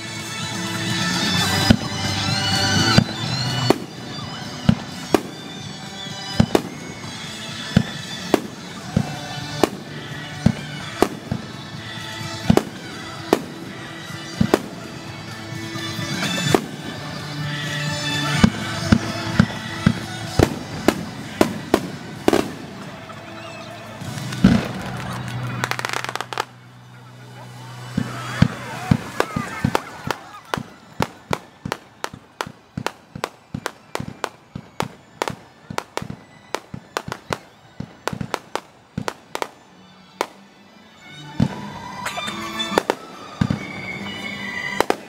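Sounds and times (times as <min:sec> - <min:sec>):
rumble of fireworks display: 0:00.0 - 0:45.0.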